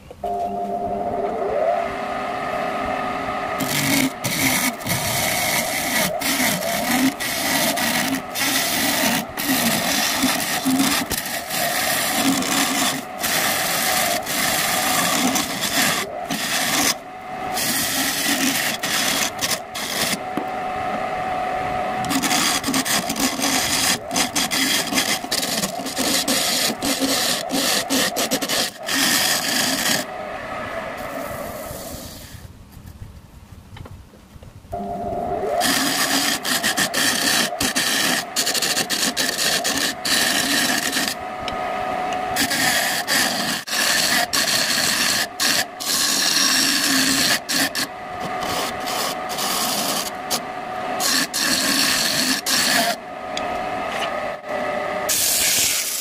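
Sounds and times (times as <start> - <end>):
lathe motor humming: 0.0 - 32.4, 34.8 - 56.0
turning tool scraping wood: 3.6 - 20.5, 22.0 - 30.1, 35.5 - 56.0.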